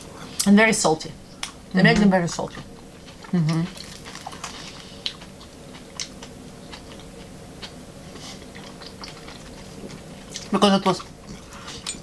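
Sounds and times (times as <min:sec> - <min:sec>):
people chewing and crunching: 0:01.4 - 0:12.0.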